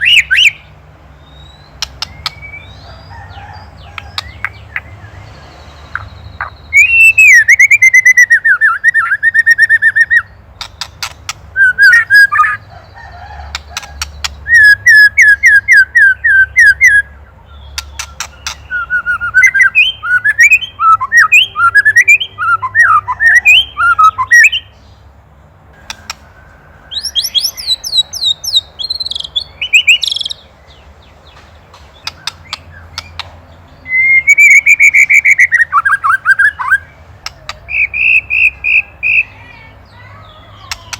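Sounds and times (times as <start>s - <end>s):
bird singing fast repeated notes: 0.0s - 40.9s.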